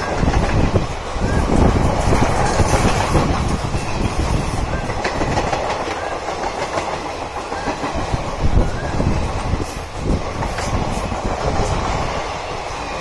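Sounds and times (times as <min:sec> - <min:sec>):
train wheels clattering over rails: 0:00.0 - 0:13.0.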